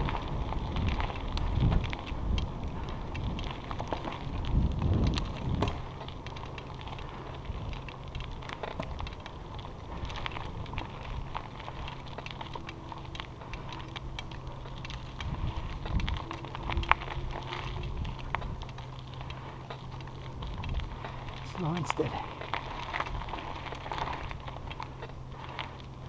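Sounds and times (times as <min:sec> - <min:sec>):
bicycle tyres on rough trail: 0:00.0 - 0:26.0
wind buffeting microphone: 0:00.0 - 0:26.0.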